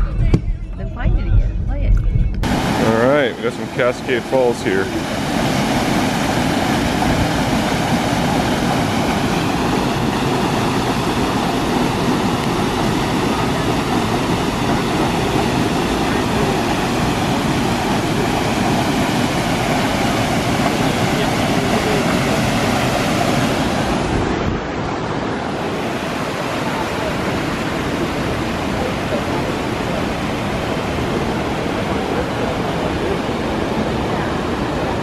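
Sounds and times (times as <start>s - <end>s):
waterfall rushing: 2.4s - 35.0s.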